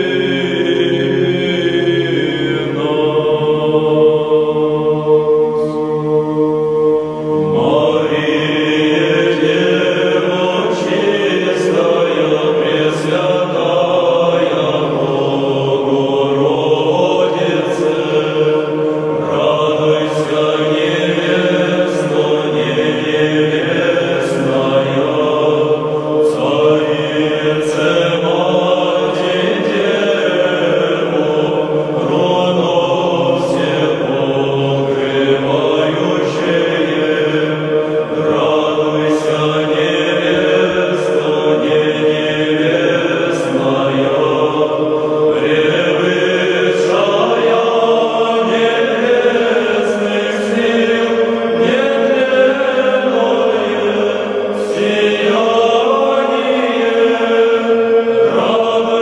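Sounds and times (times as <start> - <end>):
held drone note: 0.0 - 55.3
chanted vocal line: 0.0 - 59.0.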